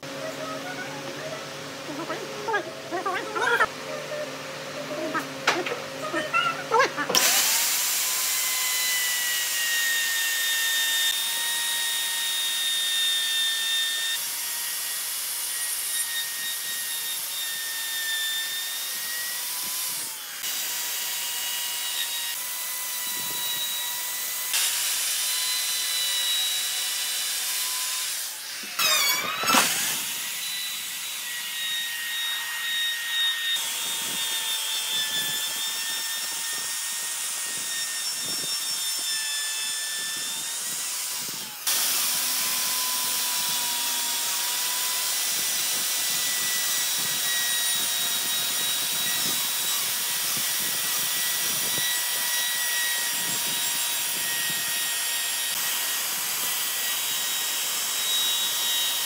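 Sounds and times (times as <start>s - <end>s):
router whining while cutting wood: 0.0s - 59.0s.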